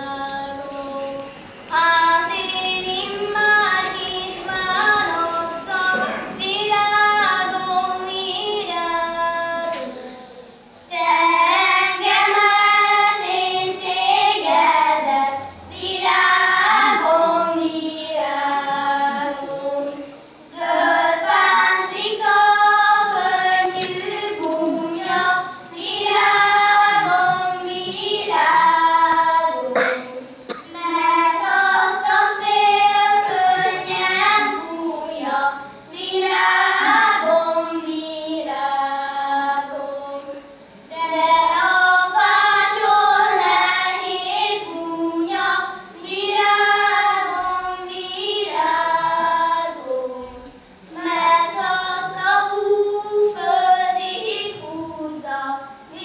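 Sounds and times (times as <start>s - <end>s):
children singing: 0.0s - 56.0s.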